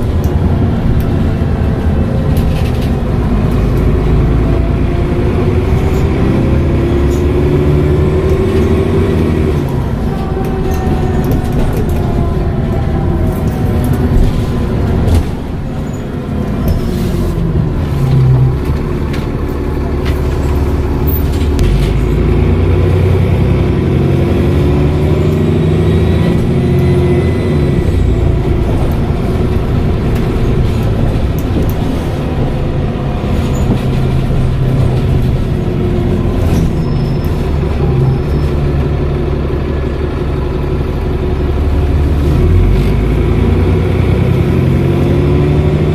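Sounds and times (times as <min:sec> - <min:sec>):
bus diesel engine: 0:00.0 - 0:45.9.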